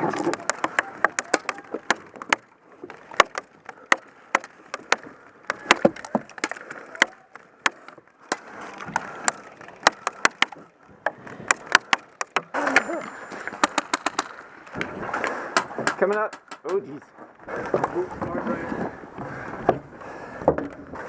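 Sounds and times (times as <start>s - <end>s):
bbs striking wood: 0.0s - 16.9s.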